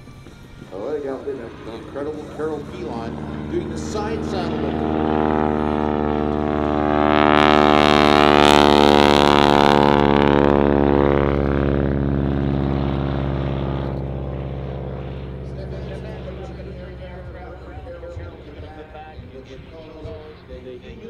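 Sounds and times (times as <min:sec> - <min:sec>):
biplane engine passing by: 0:00.0 - 0:21.0
propeller rush: 0:00.0 - 0:21.0.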